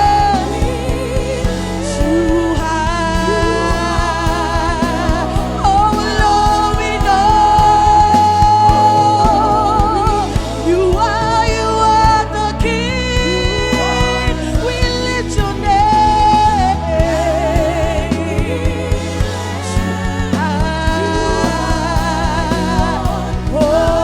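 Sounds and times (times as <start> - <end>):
bass: 0.0 - 24.0
keyboard chords: 0.0 - 24.0
person singing with vibrato: 0.0 - 24.0
steady drum beat: 0.0 - 24.0.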